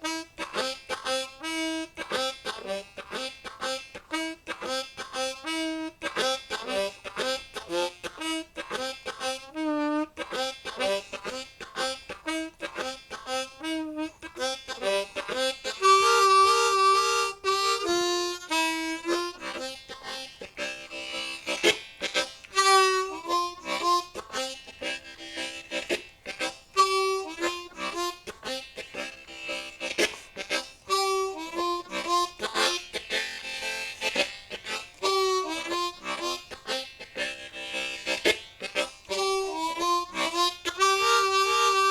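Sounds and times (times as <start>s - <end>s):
harmonica blues shuffle: 0.0s - 41.9s.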